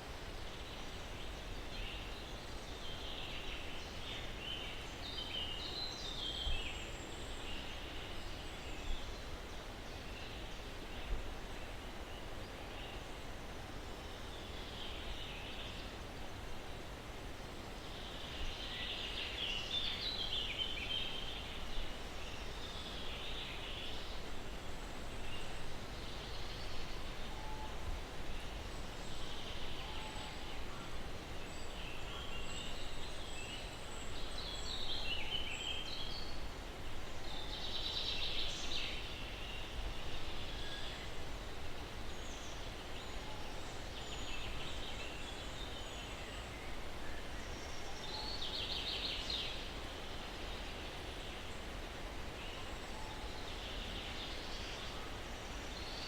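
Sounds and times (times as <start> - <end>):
songbirds calling and trilling: 0.0 - 56.0.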